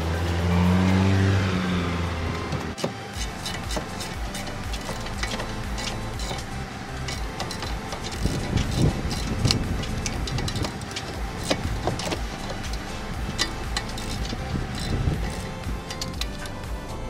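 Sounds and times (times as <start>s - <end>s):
steady low rumble: 1.7s - 17.0s.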